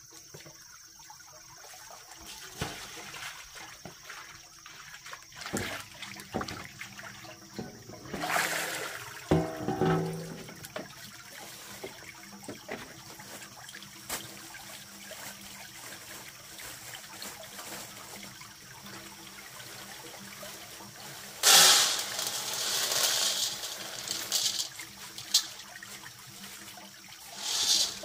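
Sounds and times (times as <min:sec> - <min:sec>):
water trickling: 0:00.1 - 0:28.0
rush of splashing water: 0:01.6 - 0:28.0.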